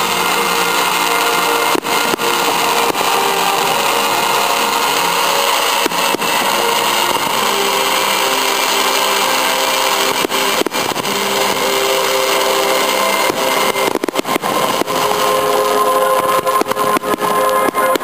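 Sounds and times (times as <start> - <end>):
fireworks bursting: 0.0 - 18.0
sharp firework bangs: 0.0 - 18.0.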